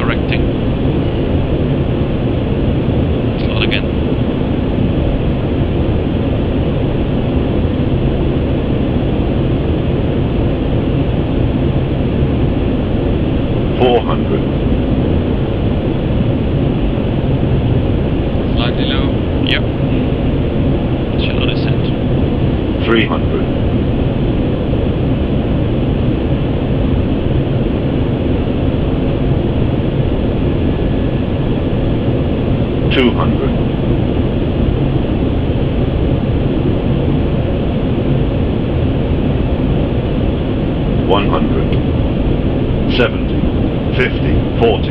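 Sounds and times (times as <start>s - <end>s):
aircraft engine noise: 0.0s - 44.9s
airflow over aircraft: 0.0s - 44.9s.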